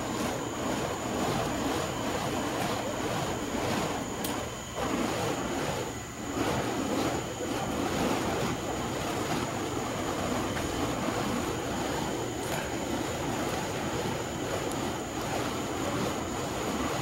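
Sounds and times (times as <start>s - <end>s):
fire poi whooshing: 0.0s - 17.0s.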